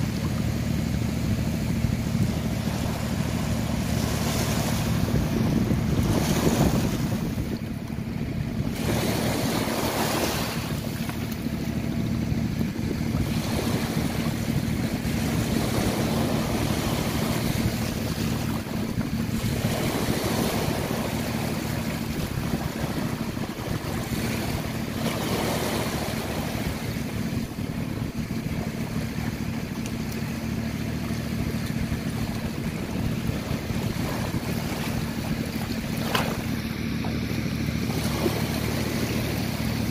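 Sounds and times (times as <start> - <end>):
steady low rumble: 0.0 - 39.9
waves washing on shore: 0.0 - 39.9.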